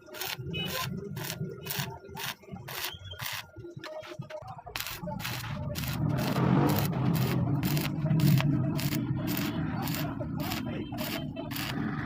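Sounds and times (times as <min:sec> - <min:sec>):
mechanical clicking or scraping: 0:00.0 - 0:04.0, 0:04.7 - 0:11.9.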